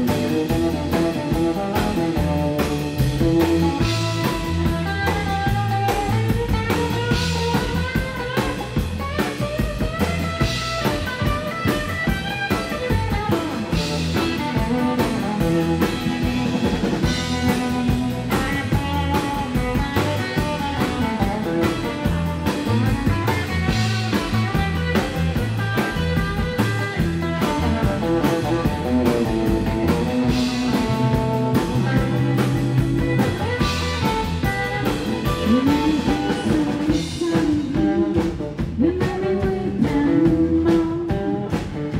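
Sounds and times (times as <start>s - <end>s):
drum kit beat: 0.0s - 41.9s
electric guitar lines: 0.0s - 41.9s.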